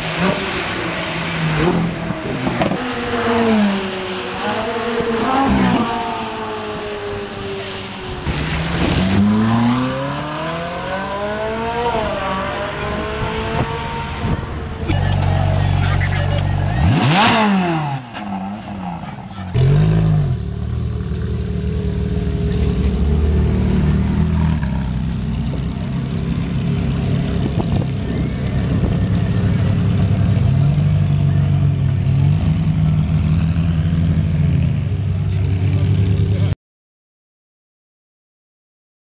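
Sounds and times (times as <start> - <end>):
sports car engine revving: 0.0 - 34.8.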